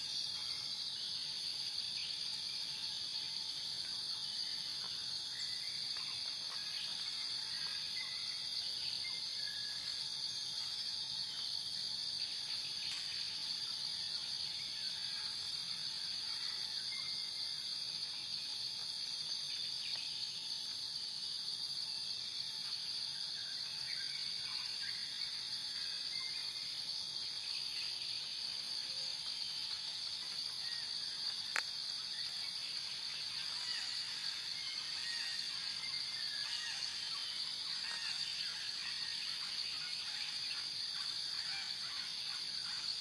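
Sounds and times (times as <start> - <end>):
crickets chorus: 0.0 - 43.0.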